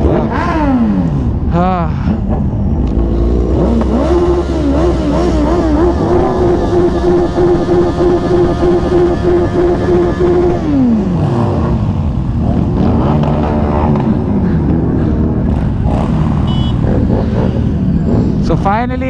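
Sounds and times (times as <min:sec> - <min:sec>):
engines revving: 0:00.0 - 0:19.0
motorcycle engine: 0:00.0 - 0:19.0.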